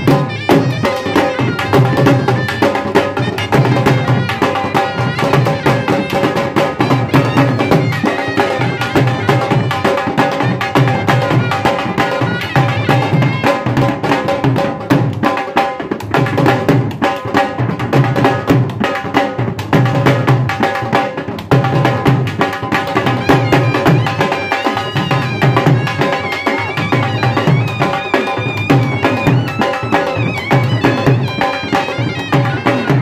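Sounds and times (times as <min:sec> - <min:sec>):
dhol drumming: 0:00.0 - 0:33.0.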